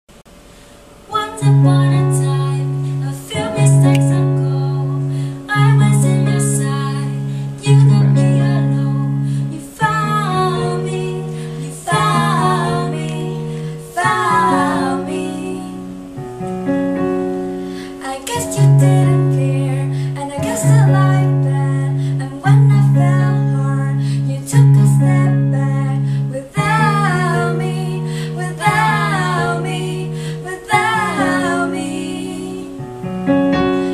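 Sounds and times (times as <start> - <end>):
piano playing held chords: 0.3 - 33.9
women singing: 1.1 - 16.1, 17.8 - 32.9.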